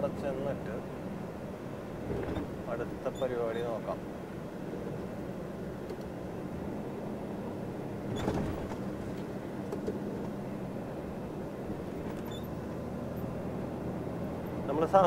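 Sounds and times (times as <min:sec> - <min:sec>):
road noise: 0:00.0 - 0:15.0
truck diesel engine hum: 0:00.0 - 0:15.0.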